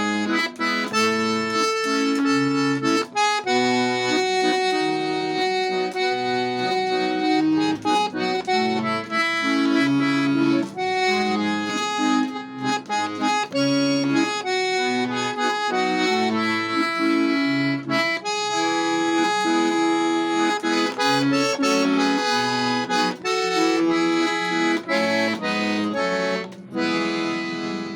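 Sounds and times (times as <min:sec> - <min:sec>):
accordion playing a melody: 0:00.0 - 0:27.9.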